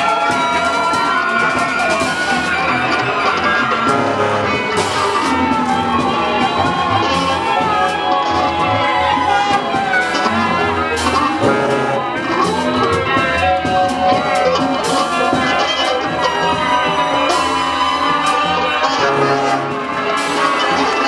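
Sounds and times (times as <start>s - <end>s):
drum kit and cymbal hits: 0.0s - 21.0s
large ensemble playing: 0.0s - 21.0s.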